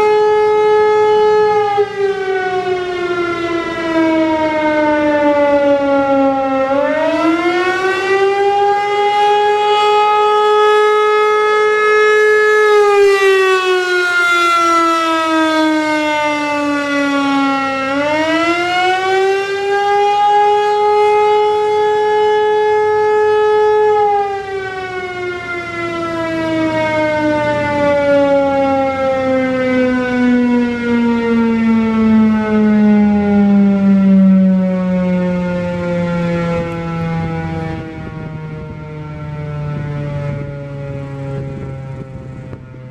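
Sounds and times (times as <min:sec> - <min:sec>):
outdoor warning siren cycling: 0:00.0 - 0:42.9.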